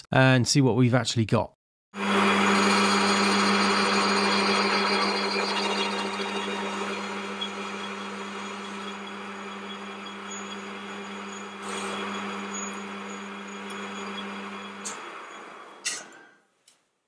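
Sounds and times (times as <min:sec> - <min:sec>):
lathe tool cutting hiss: 0:02.0 - 0:15.9
metal lathe motor hum: 0:02.0 - 0:16.0.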